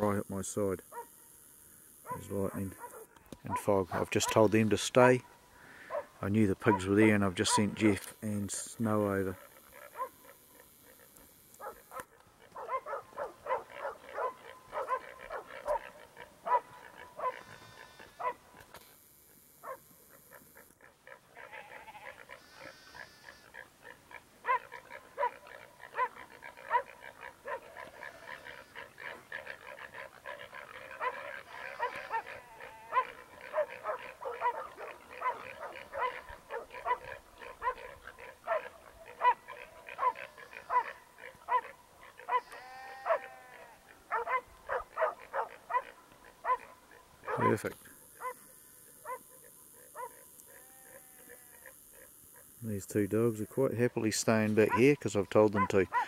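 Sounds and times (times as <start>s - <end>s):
dogs barking: 2.1s - 7.9s, 9.7s - 11.0s, 11.6s - 18.5s, 19.6s - 22.7s, 23.5s - 50.3s, 54.6s - 56.0s.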